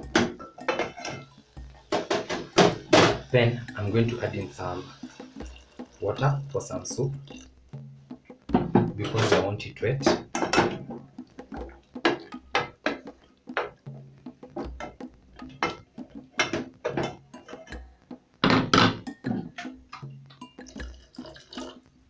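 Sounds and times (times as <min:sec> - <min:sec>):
spoon knocking against pot: 0:00.0 - 0:06.3, 0:07.1 - 0:21.3.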